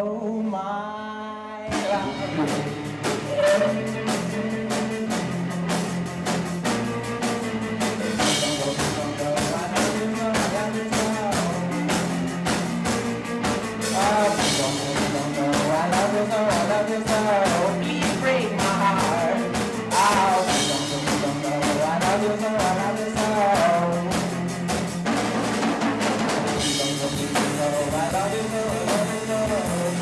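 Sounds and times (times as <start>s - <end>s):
drums keeping a steady beat: 1.7s - 30.0s
sustained bass notes: 1.7s - 30.0s.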